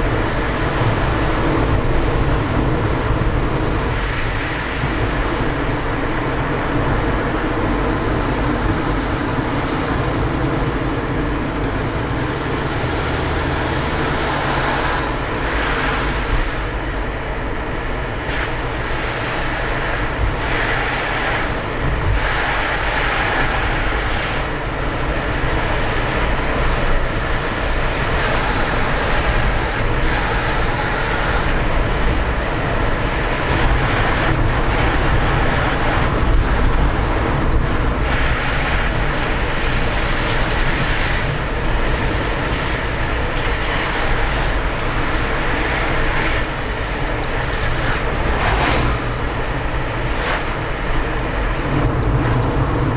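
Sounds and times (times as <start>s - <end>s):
car road and engine noise: 0.0s - 52.9s.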